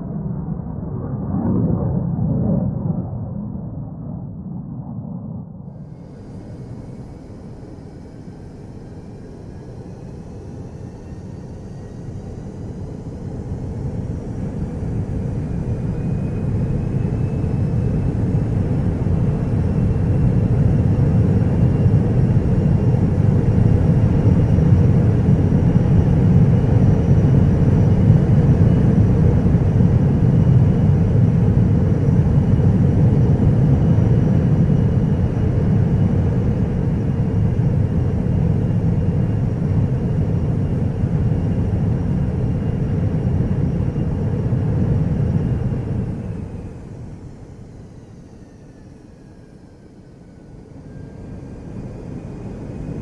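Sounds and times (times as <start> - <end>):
faint rising whine: 0.0 - 53.0
jet engine rumble: 0.0 - 53.0.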